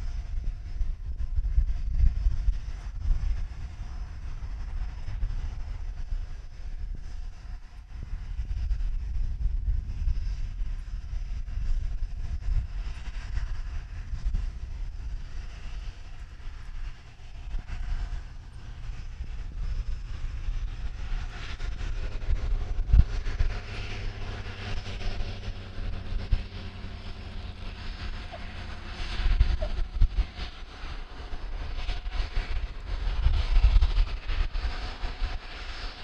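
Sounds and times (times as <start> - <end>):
jet engines running: 0.0 - 36.0
wind rumble on microphone: 0.0 - 36.0.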